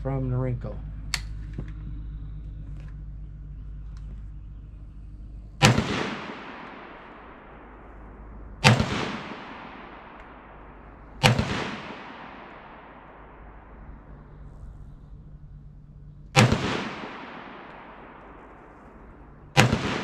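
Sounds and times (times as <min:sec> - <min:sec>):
rifle shots echoing: 0:00.8 - 0:20.0.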